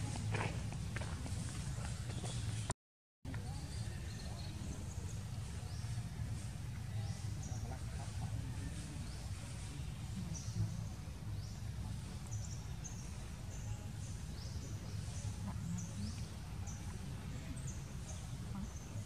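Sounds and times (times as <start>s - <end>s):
birds chirping: 0.0s - 2.7s, 3.3s - 19.0s.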